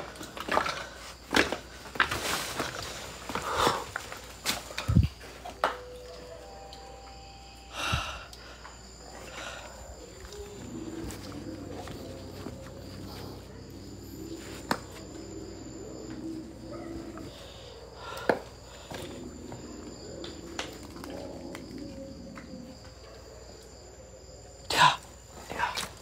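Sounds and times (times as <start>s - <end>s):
crickets trilling: 0.0s - 26.0s
faint low murmur: 3.4s - 26.0s.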